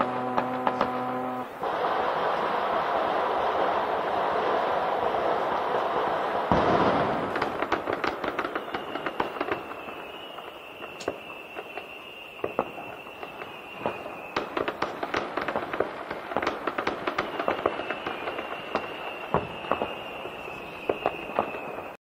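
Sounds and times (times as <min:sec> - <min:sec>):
distant fireworks bangs and pops: 0:00.0 - 0:22.0.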